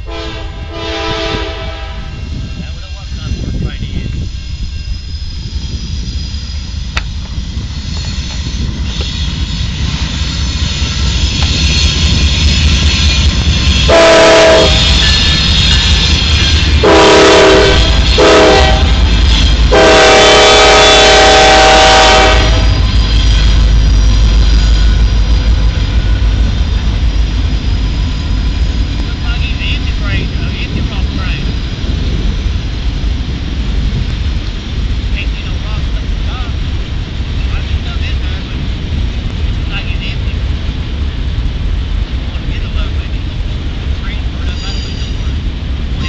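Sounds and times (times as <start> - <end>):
diesel locomotives rumbling past: 0.0 - 46.0.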